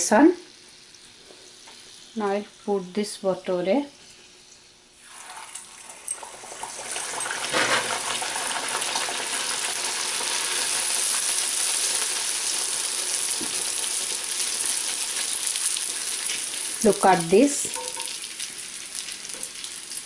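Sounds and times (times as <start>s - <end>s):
dough deep-frying in oil: 3.9s - 20.0s.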